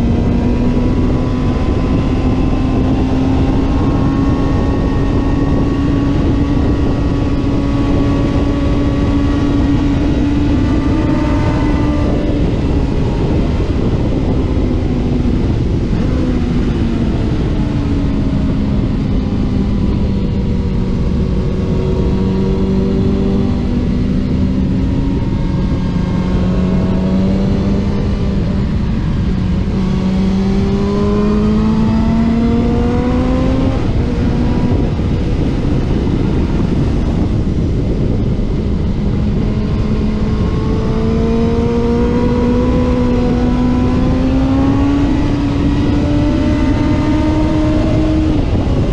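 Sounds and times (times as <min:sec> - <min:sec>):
racing motorcycle engine: 0:00.0 - 0:48.9
wind rush: 0:00.0 - 0:48.9.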